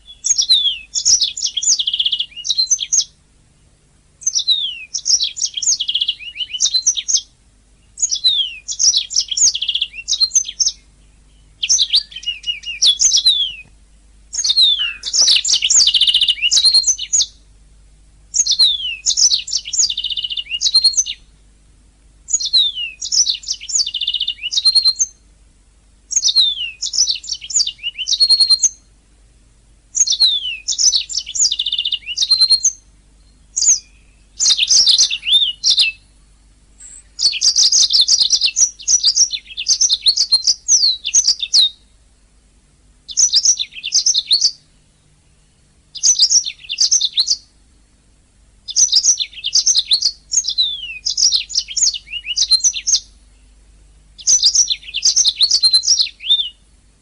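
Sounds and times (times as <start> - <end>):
canary singing: 0.0 - 3.2, 4.2 - 17.5, 18.3 - 21.4, 22.3 - 25.2, 26.1 - 29.0, 29.9 - 42.0, 43.0 - 47.8, 48.6 - 56.7.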